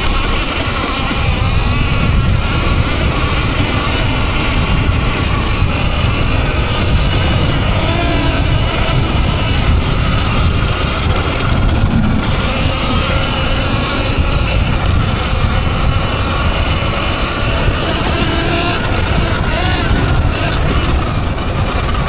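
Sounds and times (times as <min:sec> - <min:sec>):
faint electric motor whine: 0:00.0 - 0:22.0
wind rush on microphone: 0:00.0 - 0:22.0.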